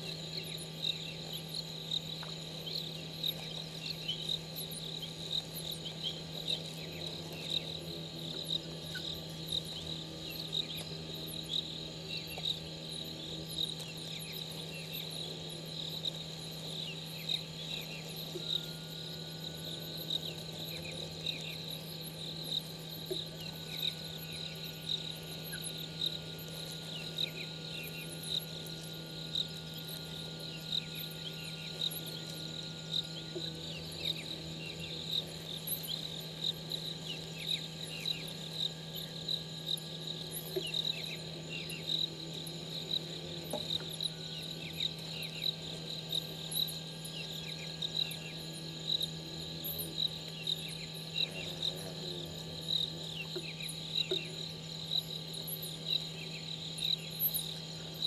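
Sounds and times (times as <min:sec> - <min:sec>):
crickets chirping: 0:00.0 - 0:58.0
higher insect chirps: 0:00.0 - 0:58.0
steady low hum: 0:00.0 - 0:58.0.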